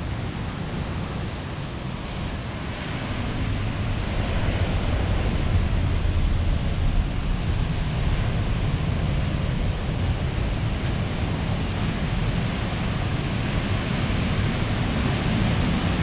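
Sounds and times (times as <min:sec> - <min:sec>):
heavy low rumble: 0:00.0 - 0:16.0
ocean surf: 0:00.0 - 0:16.0
wind: 0:00.0 - 0:16.0.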